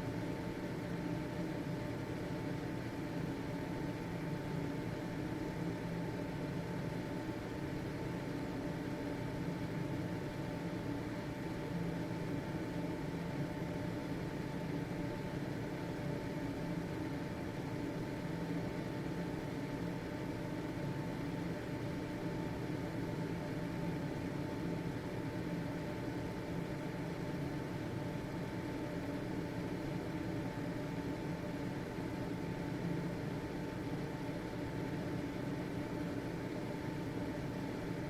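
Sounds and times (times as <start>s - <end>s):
faint motor whine: 0.0s - 38.0s
ventilation fan whirring: 0.0s - 38.0s.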